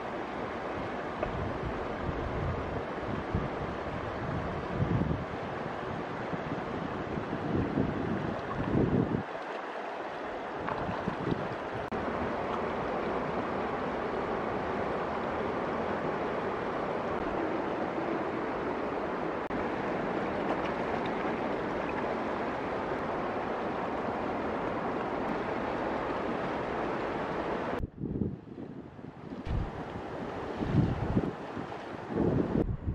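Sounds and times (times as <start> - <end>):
rushing river water: 0.0 - 32.6.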